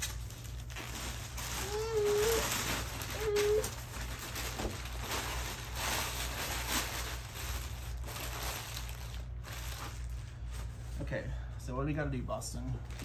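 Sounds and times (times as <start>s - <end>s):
packaging rustling and crinkling: 0.0s - 11.1s.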